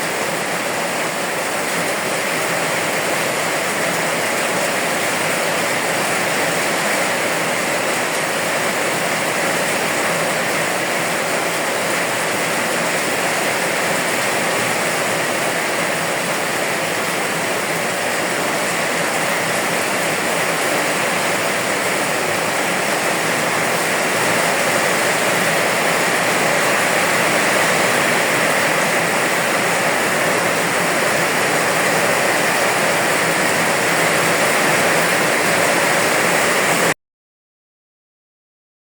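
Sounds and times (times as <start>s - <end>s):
heavy rain hissing: 0.0s - 37.0s.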